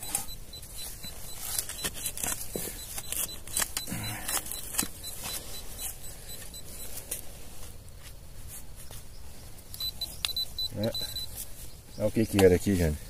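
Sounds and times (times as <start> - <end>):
digging and scraping in soil: 0.0 - 13.0.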